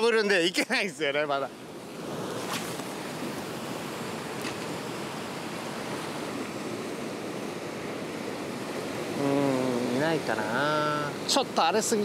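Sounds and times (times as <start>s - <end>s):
heavy surf on rocky shore: 0.0s - 12.0s.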